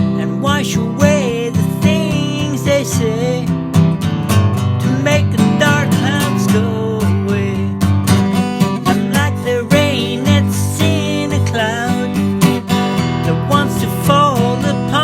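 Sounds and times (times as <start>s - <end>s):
strummed acoustic guitar chords: 0.0s - 15.0s.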